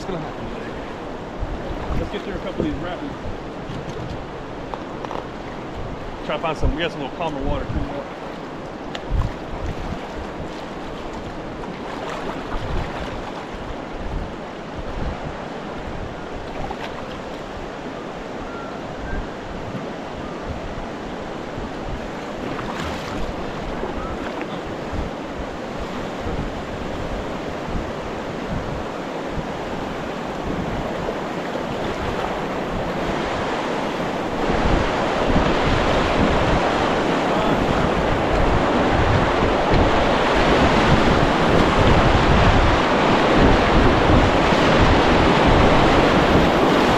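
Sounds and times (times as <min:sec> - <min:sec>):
wind buffeting microphone: 0:00.0 - 0:46.9
river water rushing through rapids: 0:05.6 - 0:46.9.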